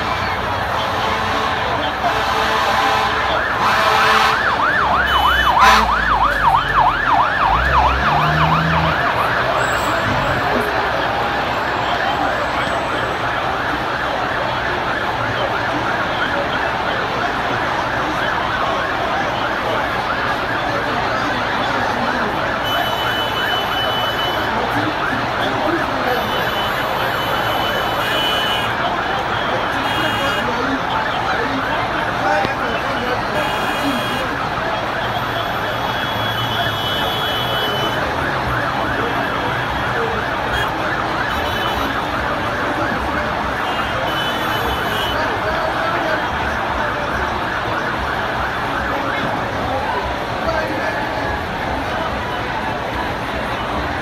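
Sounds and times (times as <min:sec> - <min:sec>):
busy street noise: 0:00.0 - 0:54.0
fire engine siren wailing: 0:00.0 - 0:54.0
large crowd din: 0:00.0 - 0:54.0.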